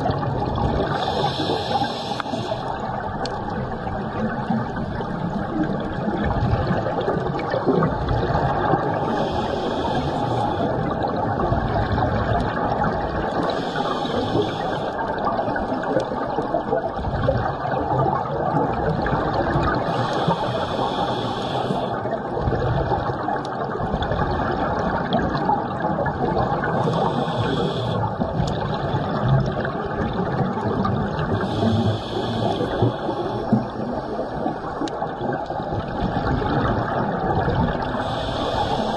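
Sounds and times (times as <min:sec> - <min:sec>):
exhaled breath bubbles hissing: 0:00.0 - 0:38.9
underwater regulator bubbling: 0:00.0 - 0:38.9.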